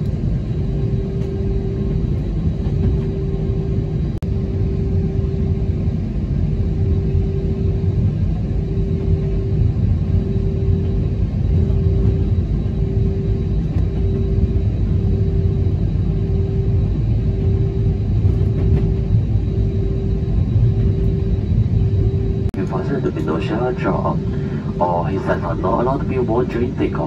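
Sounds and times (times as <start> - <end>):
airliner engine rumble: 0.0 - 27.0
pulsing hum: 0.0 - 27.0.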